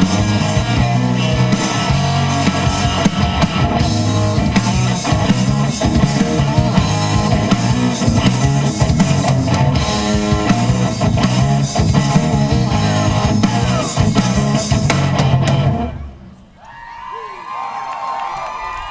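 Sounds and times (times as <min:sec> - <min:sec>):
live rock band playing: 0:00.0 - 0:16.3.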